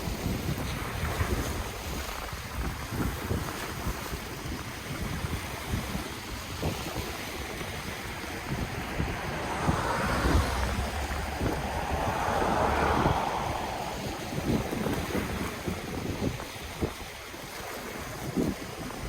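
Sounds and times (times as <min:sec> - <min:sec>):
ocean waves washing on shore: 0:00.0 - 0:19.0
wind buffeting microphone: 0:00.0 - 0:19.0.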